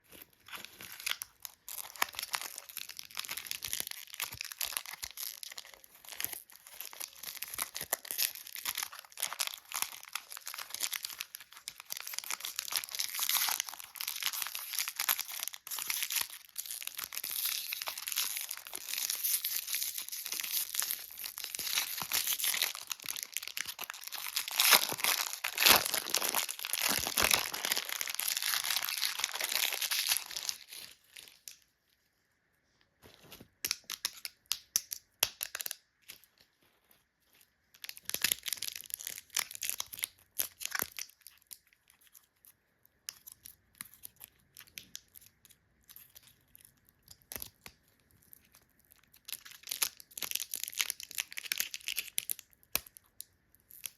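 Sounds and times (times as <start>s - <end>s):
plastic wrappers crinkling: 0.0s - 31.6s, 37.3s - 42.3s, 43.2s - 53.9s.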